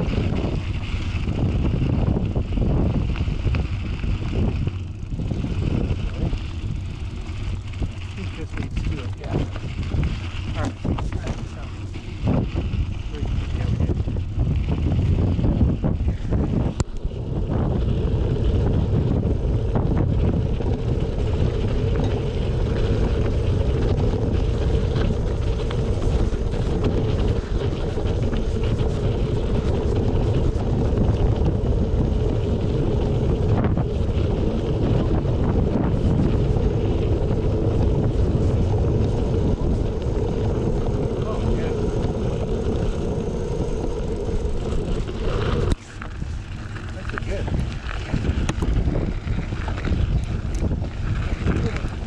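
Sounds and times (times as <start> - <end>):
bike tyre humming: 0.0 - 52.0
wind buffeting microphone: 0.0 - 52.0.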